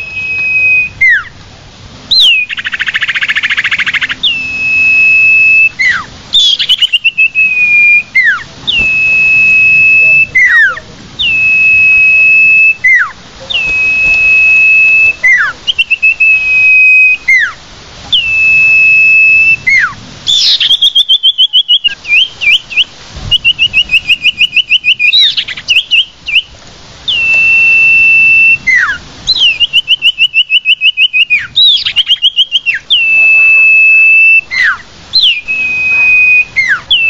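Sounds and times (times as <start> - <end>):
bird whistling and calling: 0.0 - 1.4, 2.1 - 37.0.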